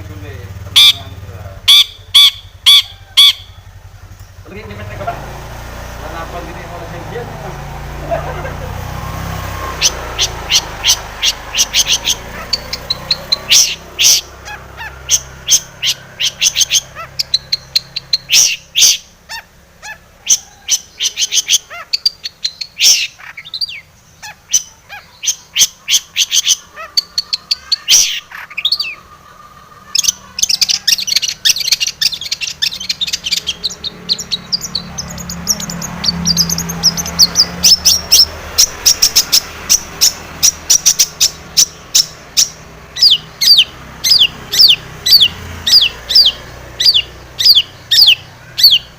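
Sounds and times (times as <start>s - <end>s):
bird singing sharp high notes: 0.0s - 3.6s, 9.1s - 29.1s, 29.9s - 48.9s.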